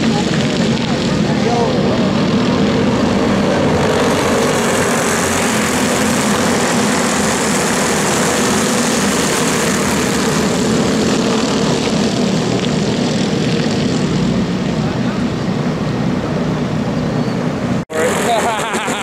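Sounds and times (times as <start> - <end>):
go-kart engines droning: 0.0 - 19.0.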